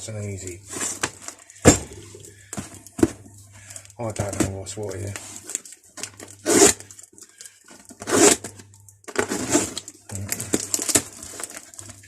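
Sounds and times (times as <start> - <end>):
wrapping rustling: 0.2 - 12.0.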